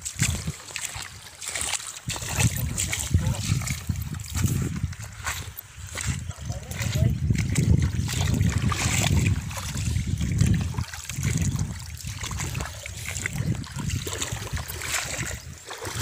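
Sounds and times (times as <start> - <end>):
river water trickling over stones: 0.0 - 16.0.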